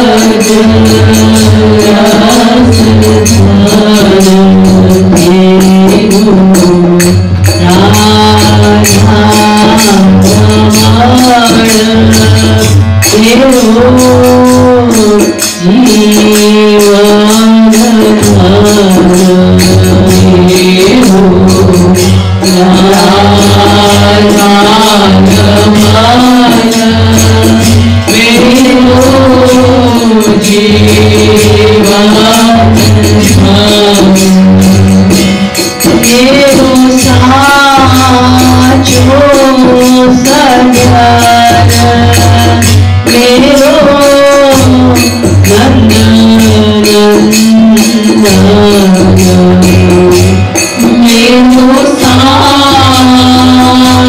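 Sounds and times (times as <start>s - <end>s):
woman singing slow melody: 0.0s - 35.3s, 35.9s - 54.0s
harmonium: 0.0s - 54.0s
steady percussion beat: 0.0s - 54.0s.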